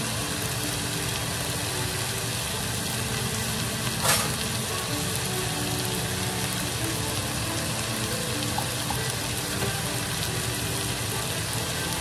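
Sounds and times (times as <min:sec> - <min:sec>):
chicken frying in pan: 0:00.0 - 0:12.0.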